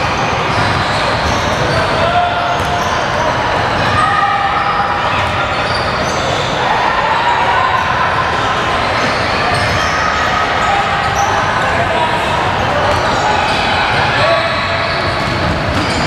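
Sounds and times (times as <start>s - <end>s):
echoing shouts: 0.0s - 16.0s.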